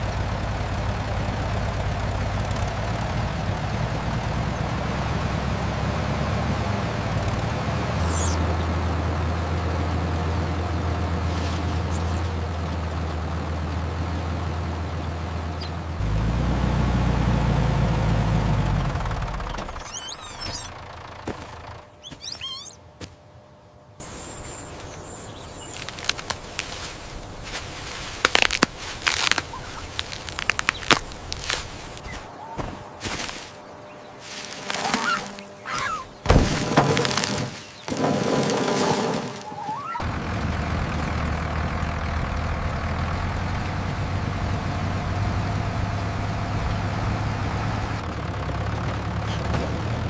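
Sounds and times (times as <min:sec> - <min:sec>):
birds chirping: 0:00.0 - 0:16.2, 0:18.7 - 0:48.0
engine droning: 0:00.0 - 0:50.0.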